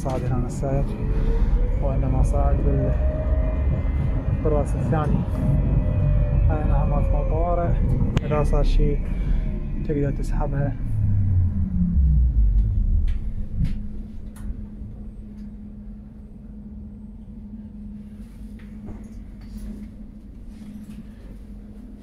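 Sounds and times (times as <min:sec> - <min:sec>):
tram rumble and motor whine: 0:00.0 - 0:22.0.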